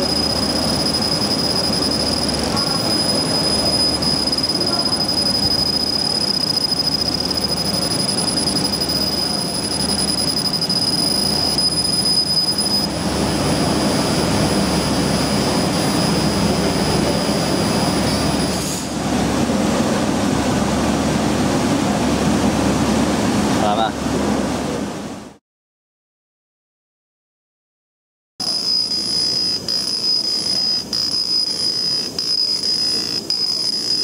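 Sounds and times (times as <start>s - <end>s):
high machine whine: 0.0s - 23.7s, 28.4s - 34.0s.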